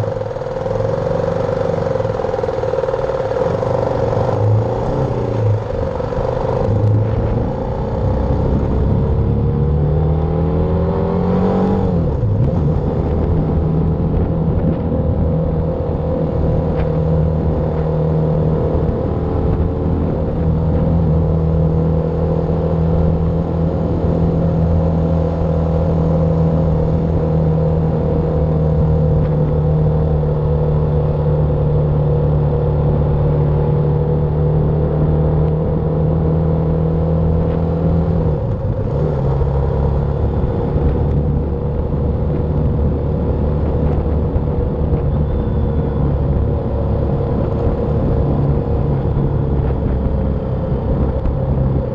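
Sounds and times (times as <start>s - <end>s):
motorcycle engine running: 0.0s - 11.0s, 11.9s - 51.9s.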